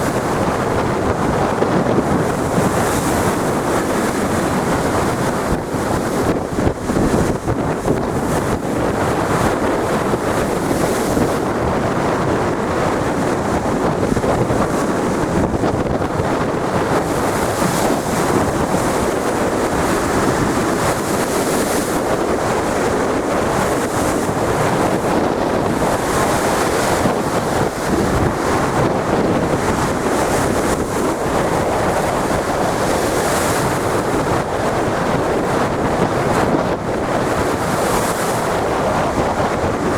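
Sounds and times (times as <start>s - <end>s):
ocean waves breaking: 0.0s - 39.9s
wind buffeting microphone: 0.0s - 39.9s.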